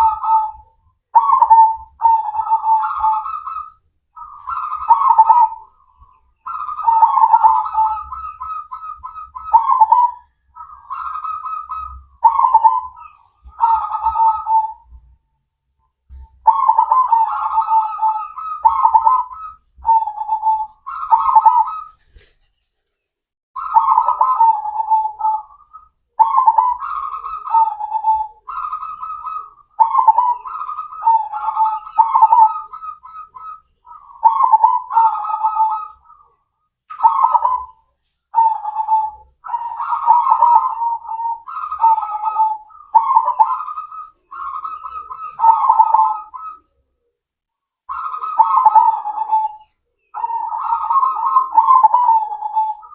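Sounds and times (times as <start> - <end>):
dove cooing: 0.0 - 15.2, 16.1 - 22.3, 23.6 - 47.1, 47.9 - 52.9.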